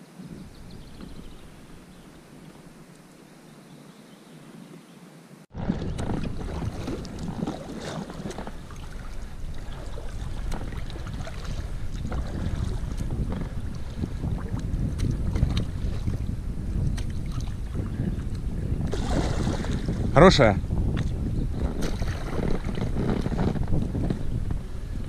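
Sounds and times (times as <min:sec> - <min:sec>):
wind buffeting microphone: 0:00.0 - 0:03.0, 0:05.5 - 0:25.0
water lapping against kayak: 0:00.2 - 0:03.1, 0:05.5 - 0:25.0.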